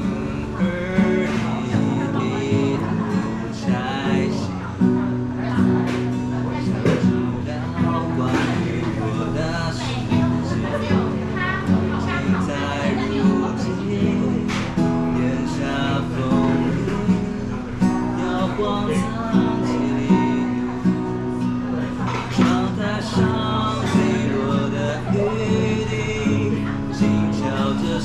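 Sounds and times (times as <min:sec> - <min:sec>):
acoustic guitar strumming and picking: 0:00.0 - 0:28.0.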